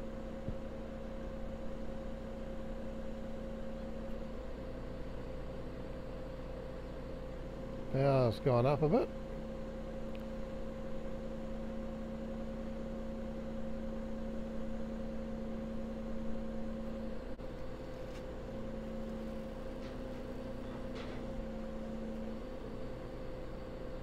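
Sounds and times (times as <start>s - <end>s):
engine and pump hum: 0.0s - 24.0s.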